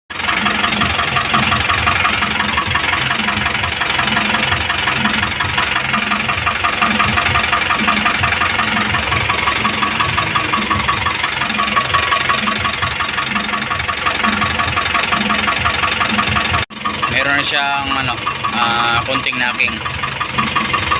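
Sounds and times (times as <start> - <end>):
diesel engine idling with knocking: 0.1 - 20.9.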